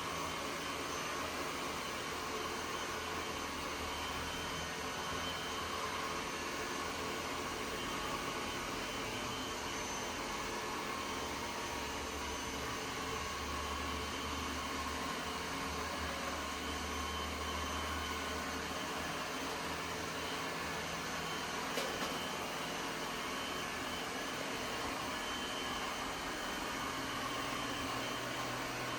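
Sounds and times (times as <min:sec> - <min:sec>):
robot vacuum cleaner whirring: 0:00.0 - 0:28.9.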